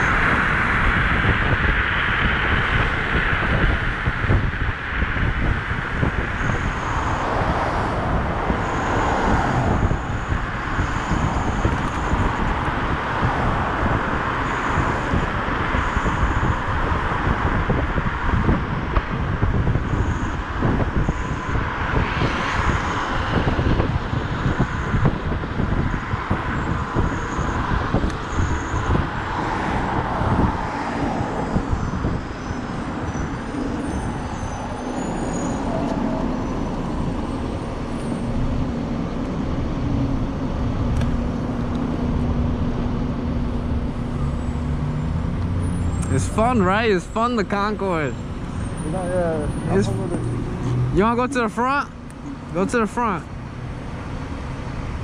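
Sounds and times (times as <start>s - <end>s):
wind buffeting microphone: 0.0s - 52.6s
road noise: 0.0s - 55.0s.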